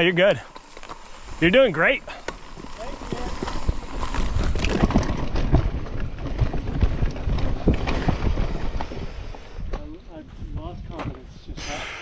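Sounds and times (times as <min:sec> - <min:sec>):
bike crunching over rocky trail: 0:00.0 - 0:11.3
wind rumbling on microphone: 0:00.6 - 0:12.0.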